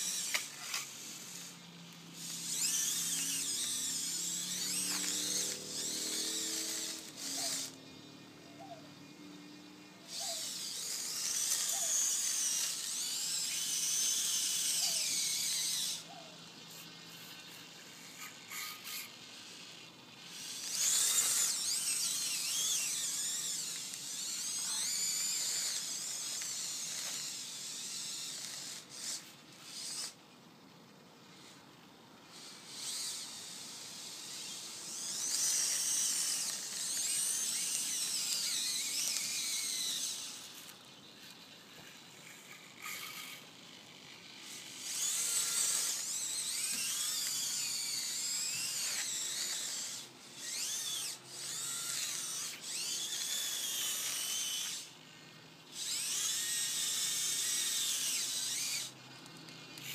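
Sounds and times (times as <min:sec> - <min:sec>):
toy servo motors whining: 0:00.0 - 0:30.3, 0:31.2 - 0:59.9.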